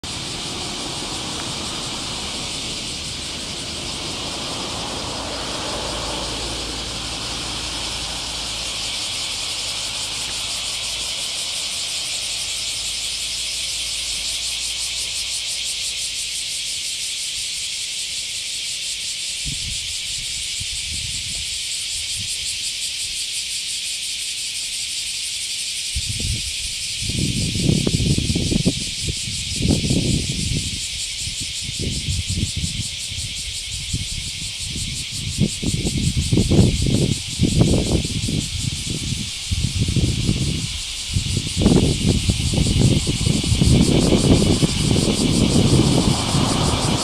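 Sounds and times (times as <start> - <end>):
cicadas singing: 0.0 - 47.0.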